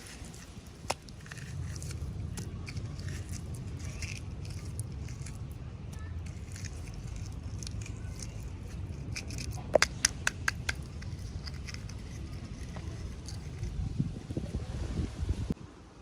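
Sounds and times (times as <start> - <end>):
plastic toy pieces clicking: 0.0 - 13.7
steady low hum: 0.0 - 14.8.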